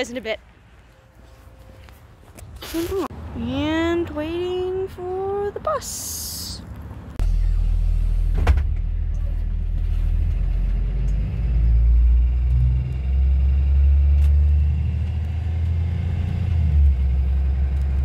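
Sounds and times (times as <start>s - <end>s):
bus engine rumble from inside: 1.6s - 18.0s.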